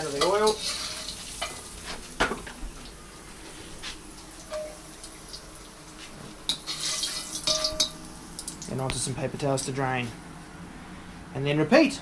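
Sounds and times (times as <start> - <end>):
hot oil sizzling and crackling: 0.0 - 10.5.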